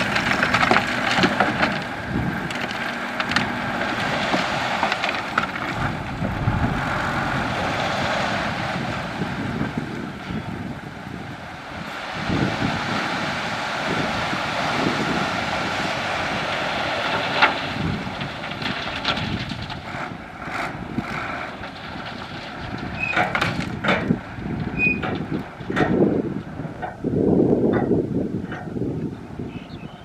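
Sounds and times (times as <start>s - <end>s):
diesel machinery running: 0.0s - 30.0s
wind buffeting microphone: 0.0s - 30.0s.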